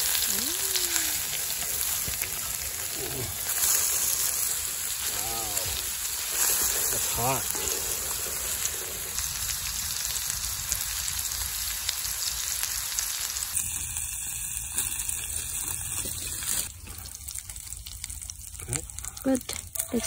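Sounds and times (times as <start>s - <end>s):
patties sizzling in frying pan: 0.0s - 20.0s.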